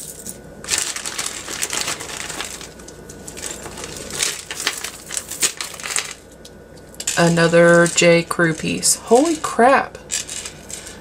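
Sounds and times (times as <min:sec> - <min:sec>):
jewelry clinking and rattling: 0:00.0 - 0:06.3, 0:06.9 - 0:11.0.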